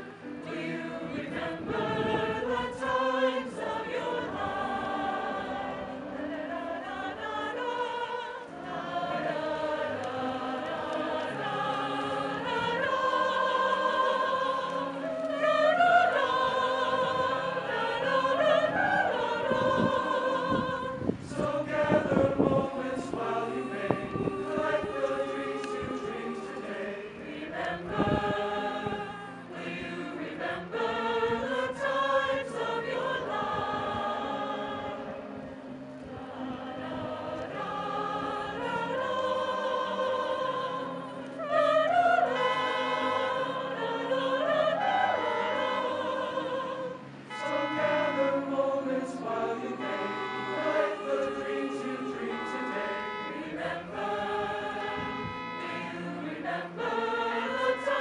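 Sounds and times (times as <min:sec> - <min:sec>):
mixed choir singing in parts: 0:00.0 - 0:58.0.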